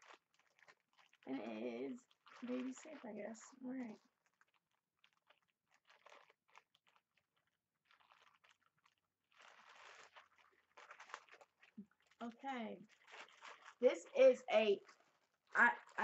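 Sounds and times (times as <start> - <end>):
packaging crackling and rustling: 0.0 - 16.0.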